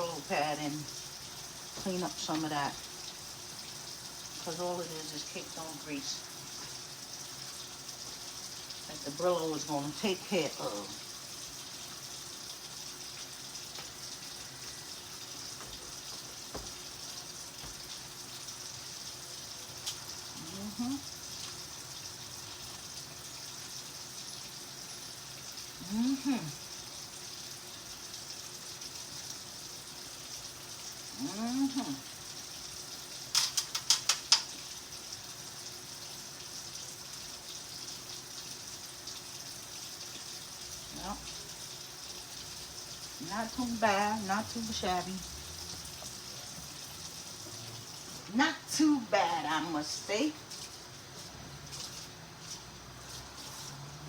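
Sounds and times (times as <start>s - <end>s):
kitchen tap running: 0.0s - 54.0s.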